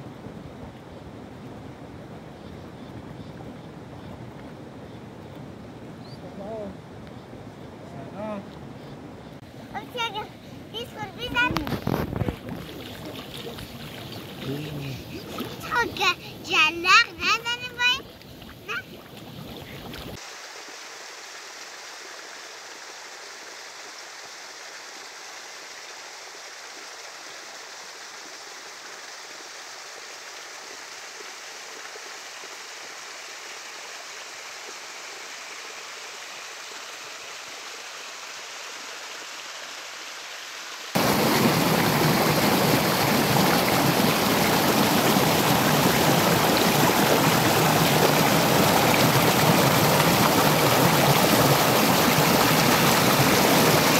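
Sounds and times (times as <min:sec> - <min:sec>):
small stream trickling: 0:00.0 - 0:53.9
stream cascading over rocks: 0:09.4 - 0:53.9.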